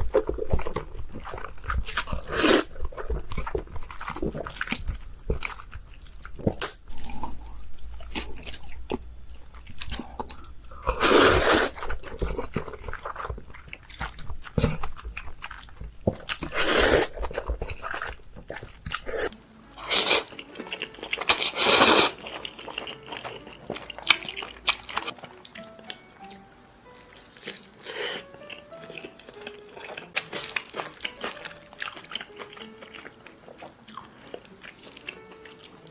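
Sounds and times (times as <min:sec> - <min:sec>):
crunching and chewing food: 0:00.0 - 0:35.9.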